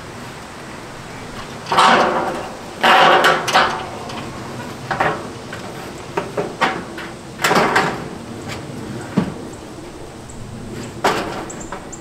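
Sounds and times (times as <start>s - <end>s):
metal roofing sheets clattering: 1.0s - 12.0s.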